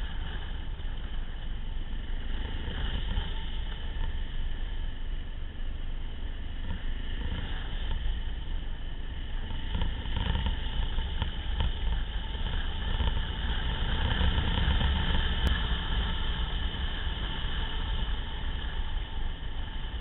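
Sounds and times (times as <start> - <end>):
vehicle engine and tyre noise: 0.0 - 20.0
wind rumble on microphone: 0.0 - 20.0.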